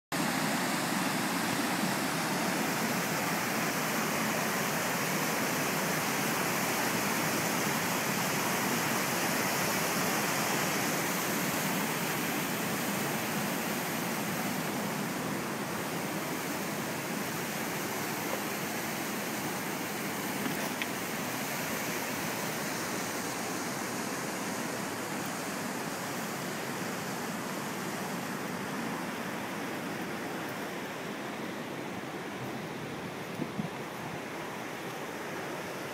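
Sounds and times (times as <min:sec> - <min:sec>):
river rapids rushing over boulders: 0:00.2 - 0:35.9.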